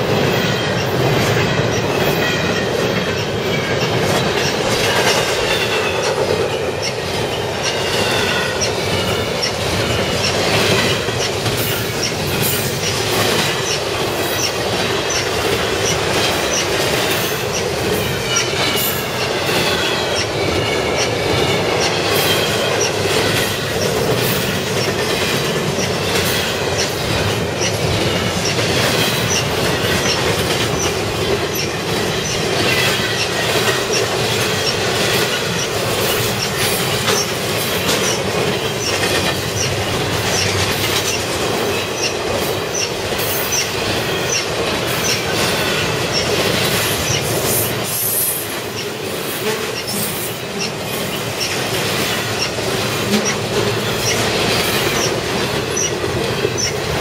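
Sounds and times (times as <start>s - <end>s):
train wheels rumbling on rail: 0.0s - 57.0s
wheels clicking over rail joints: 0.0s - 57.0s.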